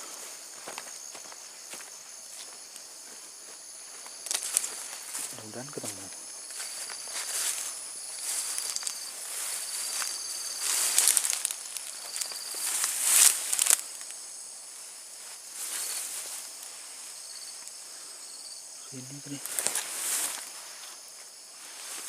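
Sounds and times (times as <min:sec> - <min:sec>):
trampling through dry undergrowth: 0:00.0 - 0:17.8, 0:19.3 - 0:22.0
insects trilling and chirping: 0:00.0 - 0:22.0.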